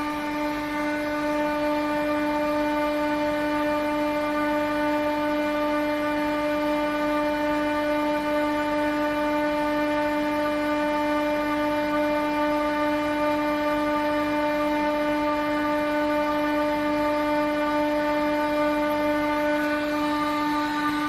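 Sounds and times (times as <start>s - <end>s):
chiller unit humming: 0.0s - 21.0s.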